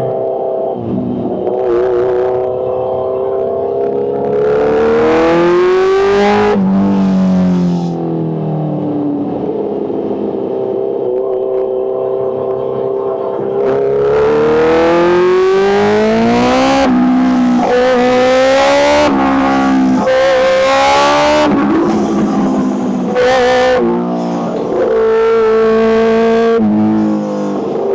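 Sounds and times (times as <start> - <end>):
motorcycle engine revving: 0.8 - 10.6, 13.6 - 27.9.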